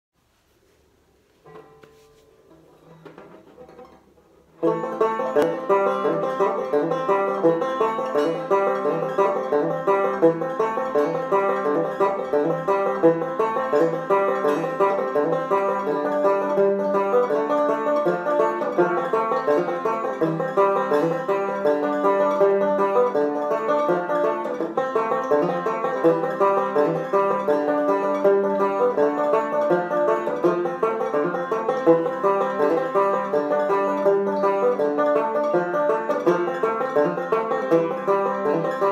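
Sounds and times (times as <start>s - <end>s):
banjo playing plucked notes: 1.4s - 38.9s.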